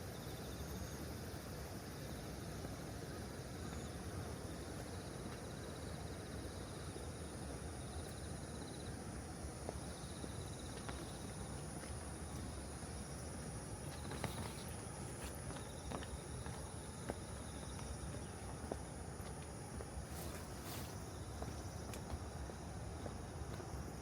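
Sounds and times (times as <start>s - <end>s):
high continuous insect trill: 0.0s - 24.0s
lower pulsing insect trill: 0.0s - 24.0s.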